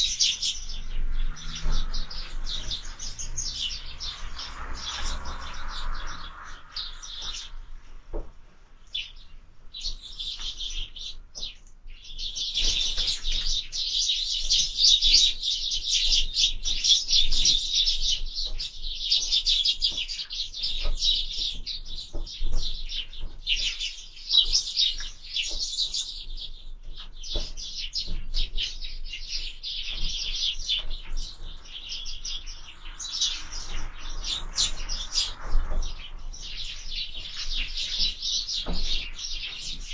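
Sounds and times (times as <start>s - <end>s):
sparrows chirping: 0.0s - 8.2s, 8.8s - 39.9s.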